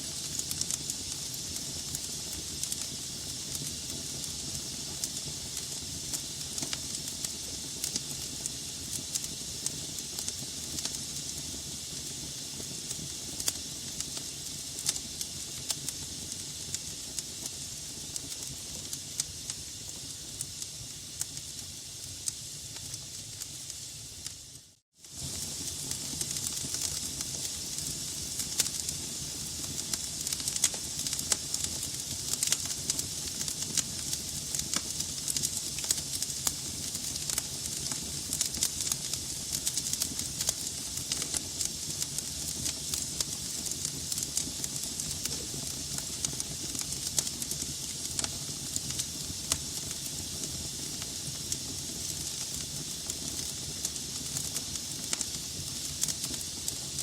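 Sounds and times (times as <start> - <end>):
logs crackling in a fireplace: 0.0 - 57.0.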